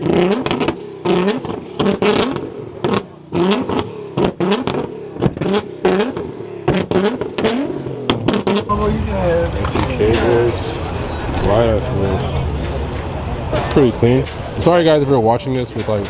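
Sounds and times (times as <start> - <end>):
car engine revving: 0.0 - 15.8
exhaust cracks: 0.0 - 16.0.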